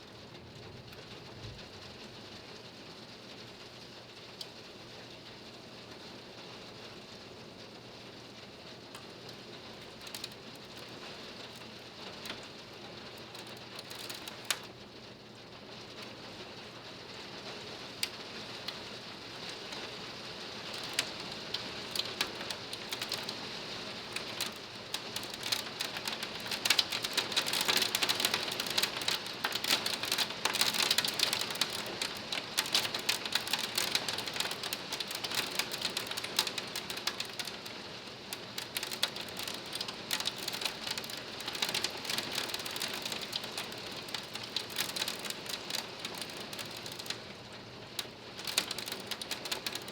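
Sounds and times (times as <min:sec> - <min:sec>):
hail and rain on a screen: 0:00.0 - 0:49.9.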